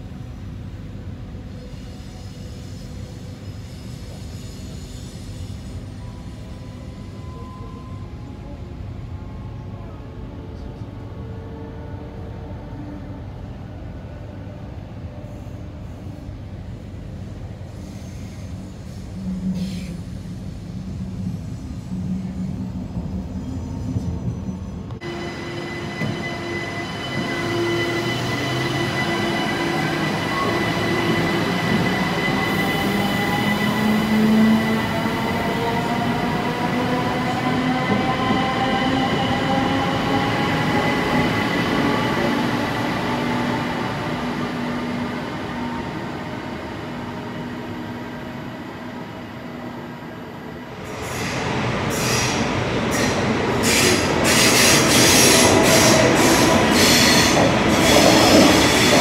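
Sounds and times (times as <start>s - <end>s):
train rolling past: 0.0s - 59.0s.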